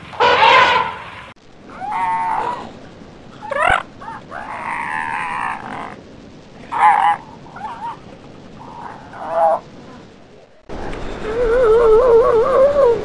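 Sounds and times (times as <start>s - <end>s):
elephants calling: 1.7s - 13.0s.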